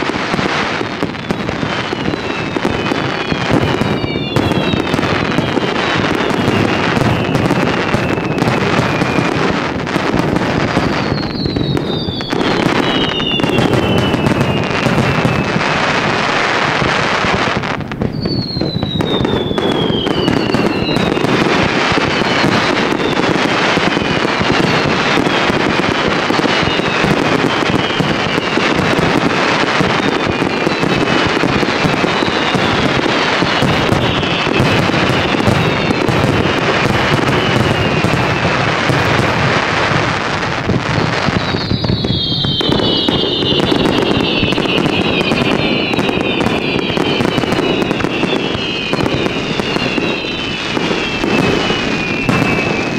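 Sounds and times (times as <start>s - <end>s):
falling firework whistles: 0.0s - 52.9s
fireworks bangs and crackling: 0.0s - 52.9s.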